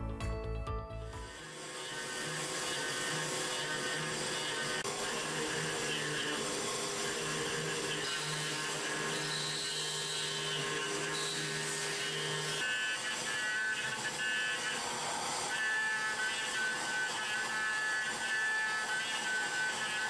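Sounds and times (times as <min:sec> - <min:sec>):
milling machine cutting whine: 0:01.2 - 0:20.0.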